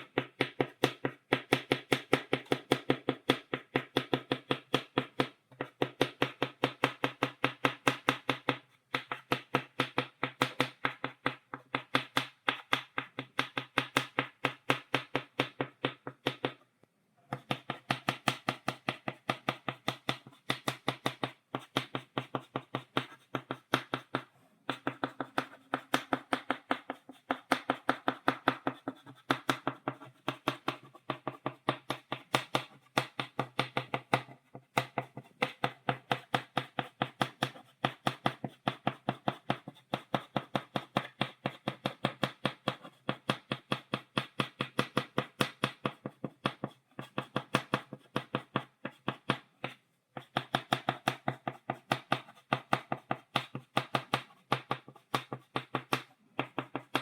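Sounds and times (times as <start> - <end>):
chalk tapping on blackboard: 0.0 - 16.6, 17.3 - 57.0.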